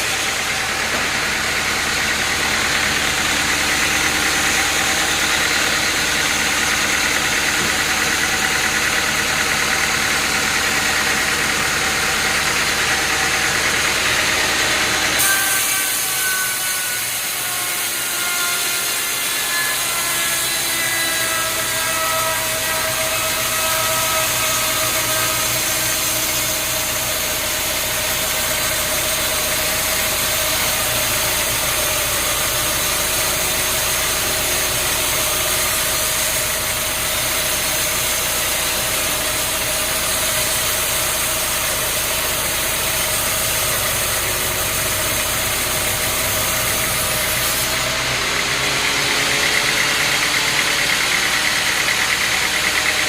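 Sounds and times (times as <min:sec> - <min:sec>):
sawmill machinery humming and whining: 0:00.0 - 0:53.0.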